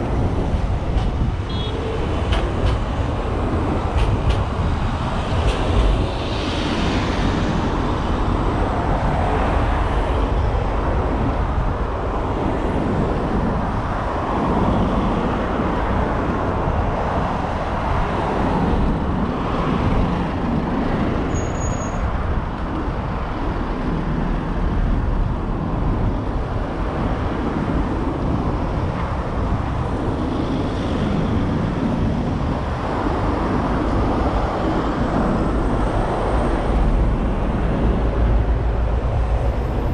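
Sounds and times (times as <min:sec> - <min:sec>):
city street traffic rumble: 0:00.0 - 0:39.9.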